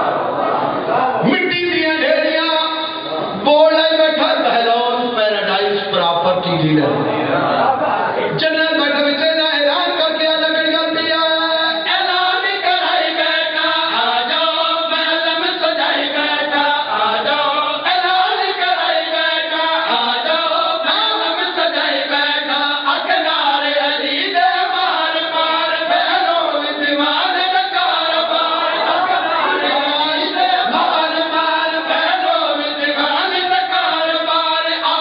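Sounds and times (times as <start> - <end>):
man chanting into a microphone: 1.1 - 7.4, 8.1 - 35.0.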